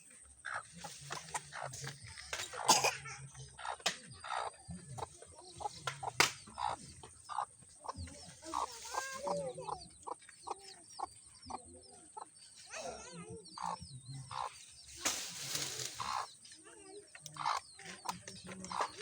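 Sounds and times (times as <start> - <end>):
chicks peeping: 0.1 - 19.0
hen clucking: 0.2 - 19.0.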